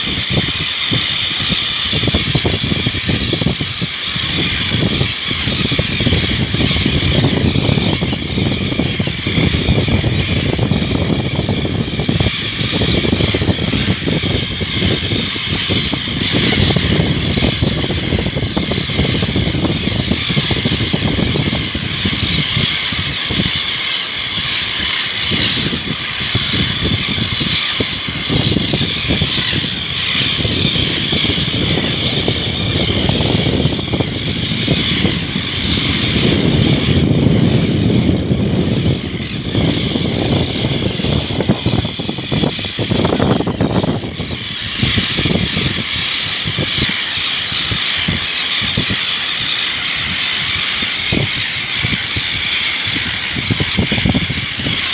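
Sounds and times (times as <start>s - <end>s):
flock of terns calling: 0.0s - 54.9s
wind on microphone: 0.0s - 54.9s.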